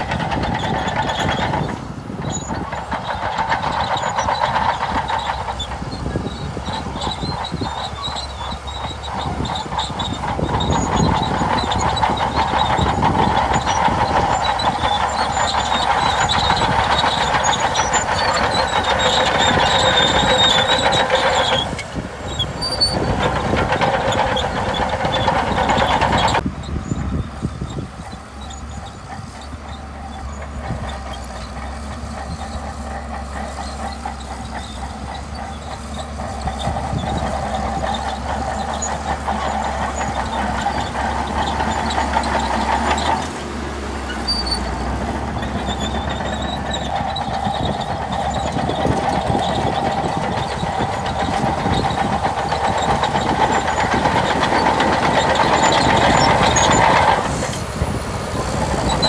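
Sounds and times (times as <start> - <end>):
steel tracks clattering: 0.0 - 26.4, 27.9 - 59.0
bulldozer diesel engine under load: 0.0 - 59.0.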